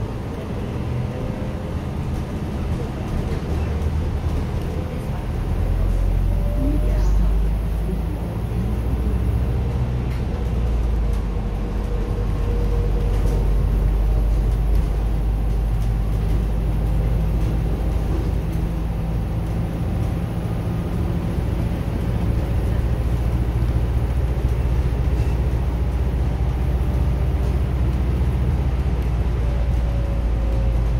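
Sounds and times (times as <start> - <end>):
bus engine rumble and road noise: 0.0 - 30.9.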